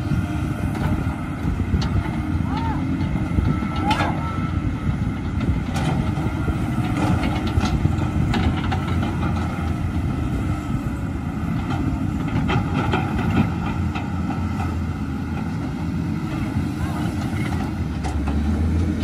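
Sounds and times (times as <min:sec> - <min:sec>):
diesel engines running: 0:00.0 - 0:19.0
excavator buckets knocking and scraping: 0:00.1 - 0:19.0.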